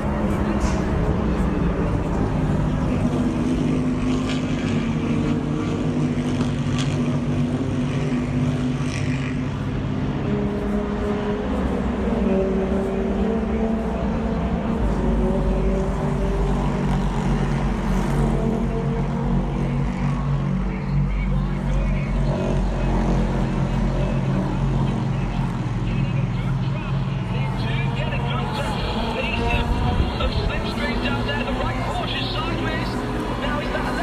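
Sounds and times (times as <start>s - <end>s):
race car engines droning: 0.0s - 34.0s.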